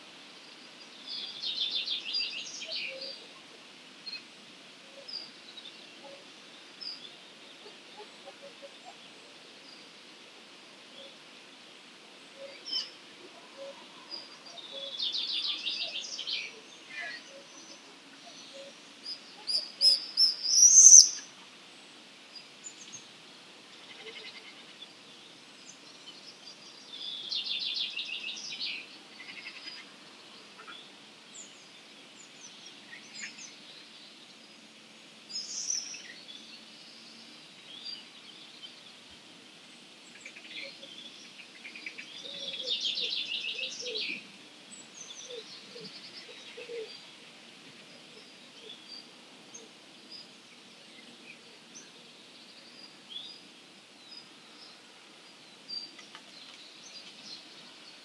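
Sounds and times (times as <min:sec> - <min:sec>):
songbirds singing and calling: 0:00.4 - 0:11.3, 0:12.2 - 0:58.0.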